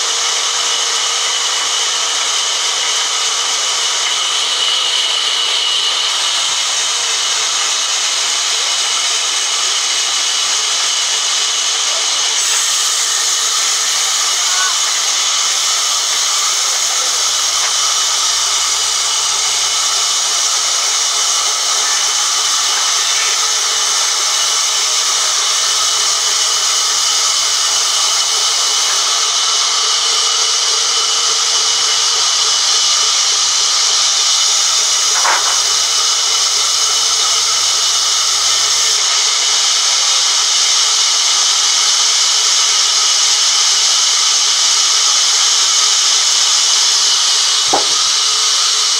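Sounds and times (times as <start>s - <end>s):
band saw cutting through log: 0.0s - 48.9s.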